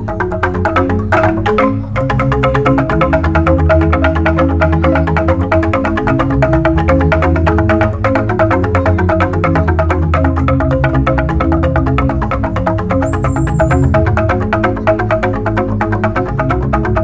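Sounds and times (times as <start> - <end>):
bamboo xylophones playing: 0.0 - 17.0
deep sustained bass: 0.0 - 17.0.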